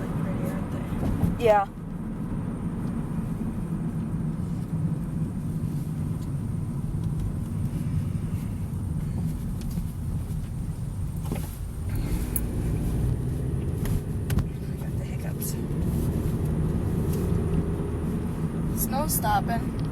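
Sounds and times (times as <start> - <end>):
car engine: 0.0 - 19.9
road noise inside car: 0.0 - 19.9.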